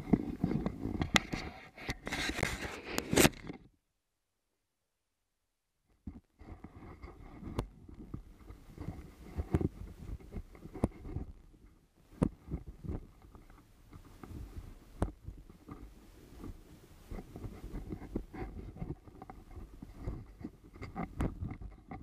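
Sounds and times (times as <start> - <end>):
rubbing against microphone: 0.0 - 3.7, 6.0 - 22.0.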